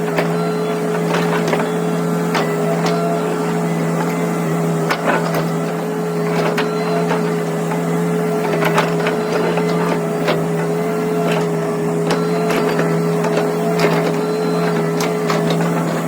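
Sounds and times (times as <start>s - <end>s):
excavator engine hum and whine: 0.0s - 16.0s.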